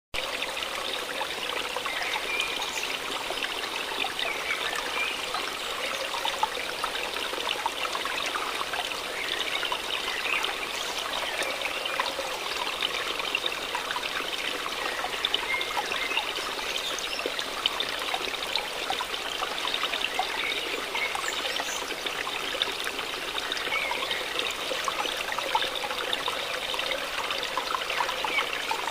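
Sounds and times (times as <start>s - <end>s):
water trickling and babbling: 0.2s - 28.9s.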